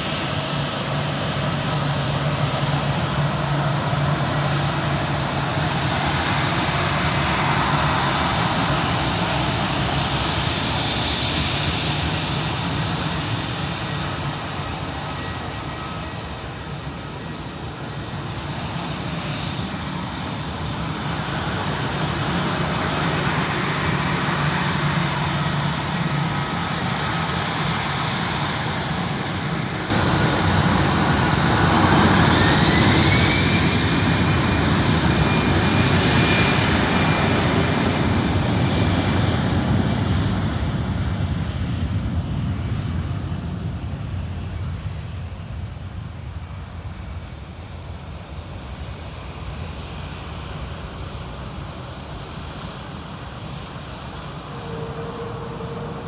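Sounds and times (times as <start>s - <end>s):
rising engine whine: 0.0s - 43.4s, 53.4s - 56.0s
jet engines at takeoff: 0.0s - 56.0s.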